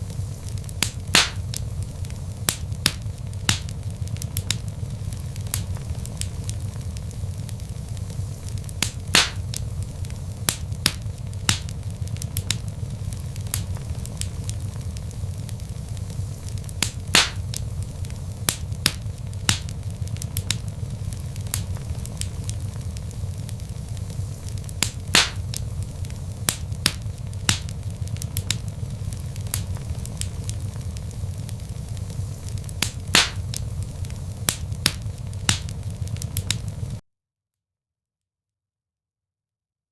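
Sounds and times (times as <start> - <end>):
log fire crackling: 0.0 - 37.0.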